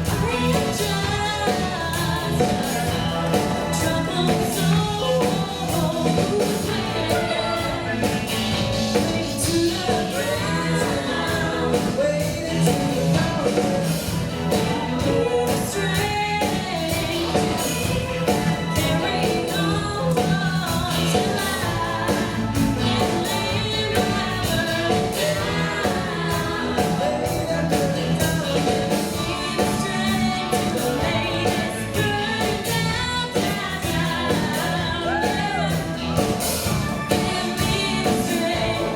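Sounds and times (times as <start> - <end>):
live rock band playing: 0.0 - 38.9
person singing: 0.0 - 38.9.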